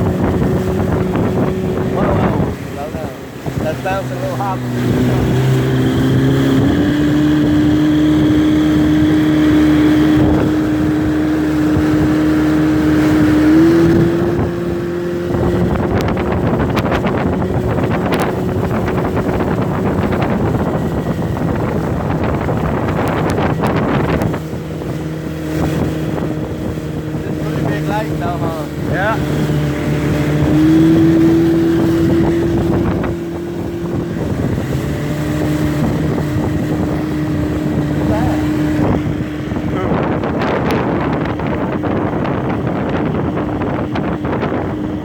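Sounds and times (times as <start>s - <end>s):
motorboat engine running: 0.0s - 45.0s
wind noise on microphone: 0.0s - 45.0s.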